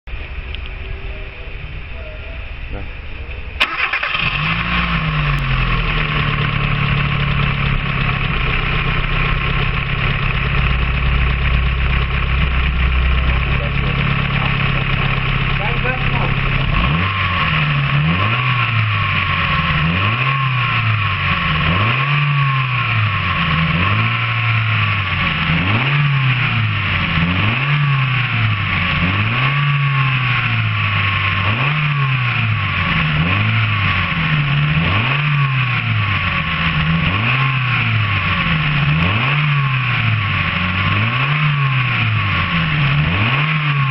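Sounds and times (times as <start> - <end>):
car engine revving: 0.2 - 43.9.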